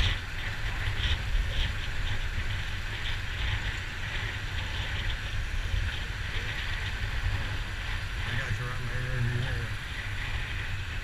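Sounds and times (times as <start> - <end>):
motorbike road noise: 0.0 - 11.0
wind rumble on microphone: 0.0 - 11.0.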